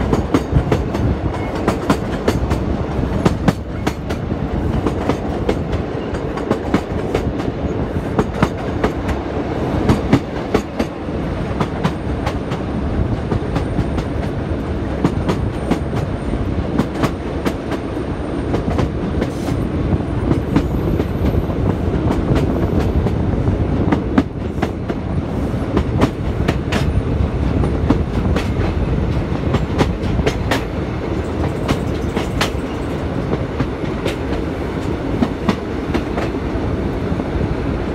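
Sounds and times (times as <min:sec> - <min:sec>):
train rumbling at speed: 0:00.0 - 0:37.9.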